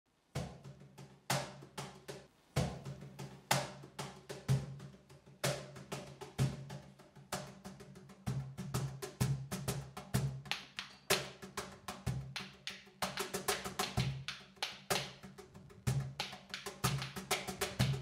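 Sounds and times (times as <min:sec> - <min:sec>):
drum strokes in steady rhythm: 0:00.3 - 0:18.0.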